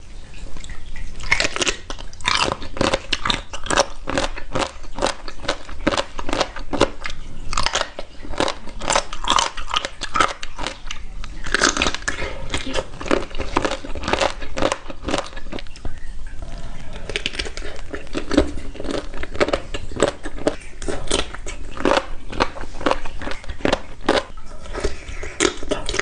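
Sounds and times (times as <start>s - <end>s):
crunchy food chewing: 1.2s - 26.0s.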